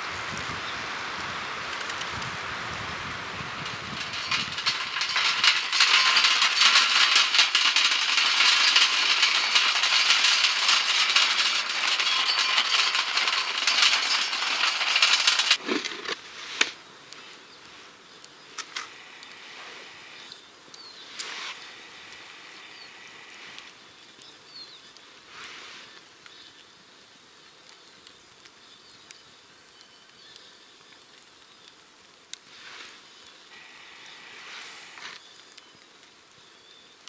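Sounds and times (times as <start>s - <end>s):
campfire crackling: 0.0s - 28.7s, 29.4s - 36.5s.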